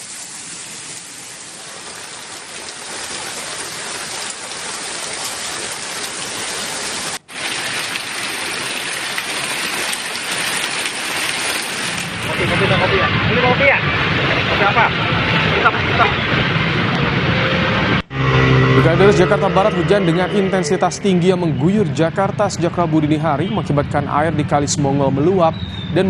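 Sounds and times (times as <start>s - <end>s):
heavy rain pouring: 0.0s - 17.3s, 18.0s - 21.8s.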